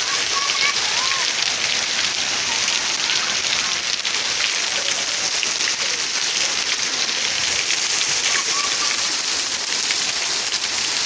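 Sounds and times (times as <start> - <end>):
heavy rain splashing into water: 0.0 - 11.0.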